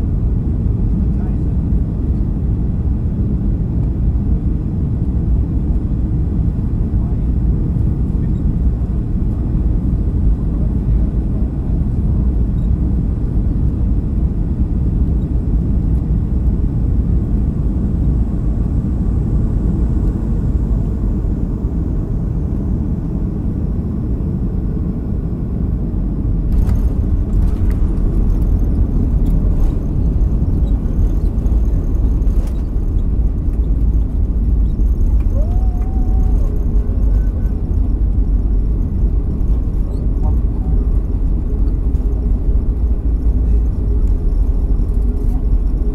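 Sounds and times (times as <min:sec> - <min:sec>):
jet cabin rumble: 0:00.0 - 0:45.9.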